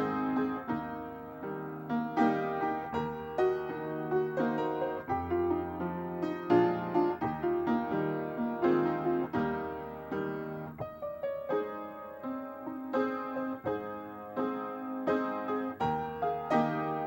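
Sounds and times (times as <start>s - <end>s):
slow chordal piano music: 0.0s - 17.0s.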